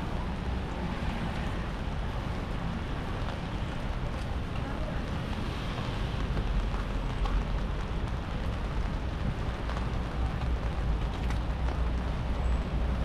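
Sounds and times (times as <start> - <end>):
wet traffic: 0.0 - 13.0.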